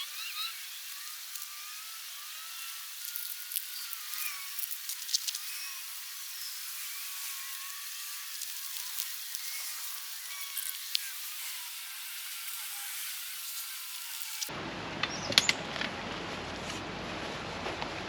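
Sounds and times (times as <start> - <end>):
steady hiss: 0.0 - 14.5.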